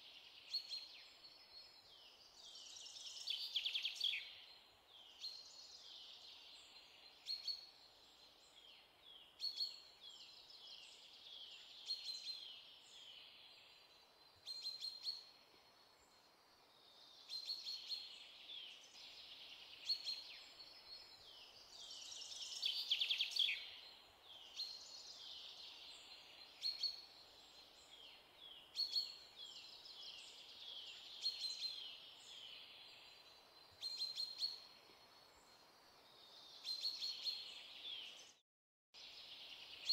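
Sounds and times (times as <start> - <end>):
small birds chirping: 0.0 - 38.4, 39.0 - 39.9.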